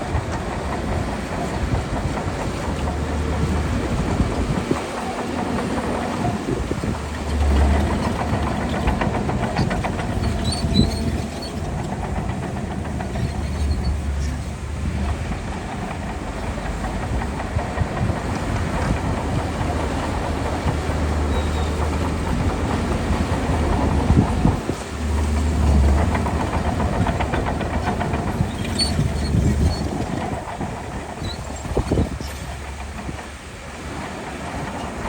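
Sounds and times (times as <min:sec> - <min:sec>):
bulldozer diesel engine running: 0:00.0 - 0:35.0
steel tracks clanking: 0:00.0 - 0:35.0.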